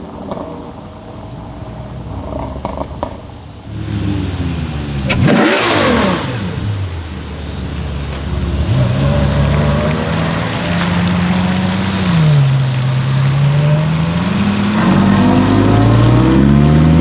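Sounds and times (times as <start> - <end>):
car accelerating past: 1.3 - 17.0
engine revving: 1.3 - 17.0.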